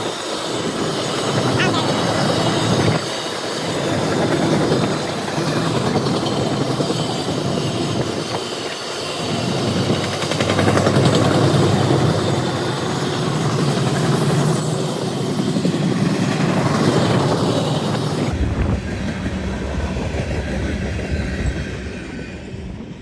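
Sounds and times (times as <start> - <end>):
freight train cars rolling: 0.0 - 23.0.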